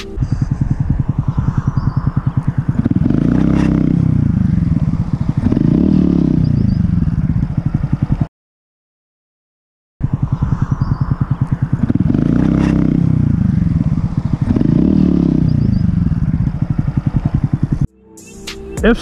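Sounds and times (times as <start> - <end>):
motorcycle engine grinding and clattering: 0.0 - 8.3, 10.0 - 17.9.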